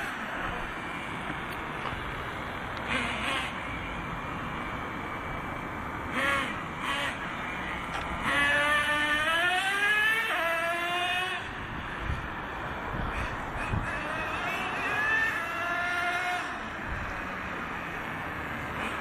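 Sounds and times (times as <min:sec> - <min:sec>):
nitro engine revving: 0:00.0 - 0:19.0.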